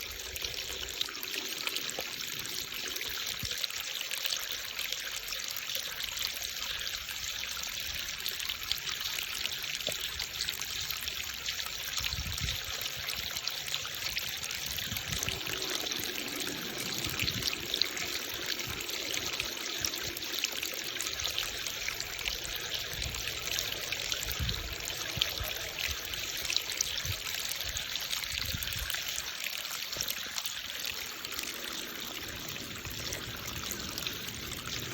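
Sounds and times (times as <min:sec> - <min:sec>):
creek water babbling over stones: 0:00.0 - 0:34.9.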